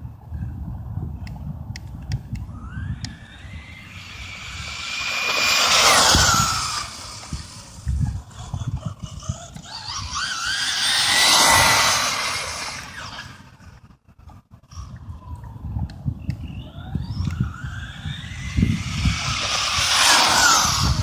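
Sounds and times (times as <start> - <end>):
rc truck motor whine: 2.2 - 21.0.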